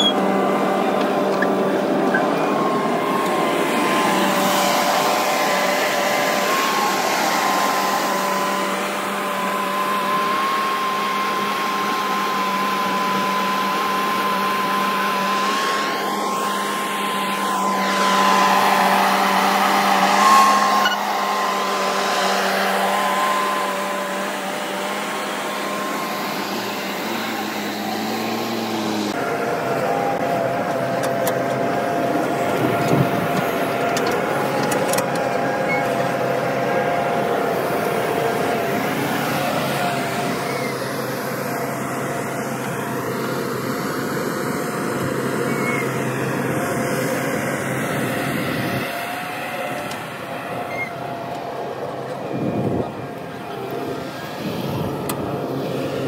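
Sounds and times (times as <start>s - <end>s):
diesel engines running: 0.0s - 56.0s
steady whine: 0.0s - 56.0s.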